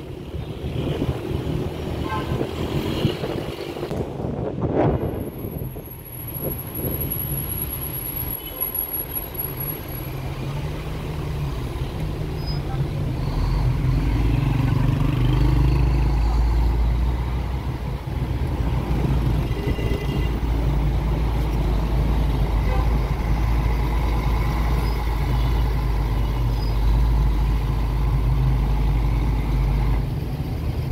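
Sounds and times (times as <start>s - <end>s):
car engine and tyres rumbling: 0.0s - 30.9s.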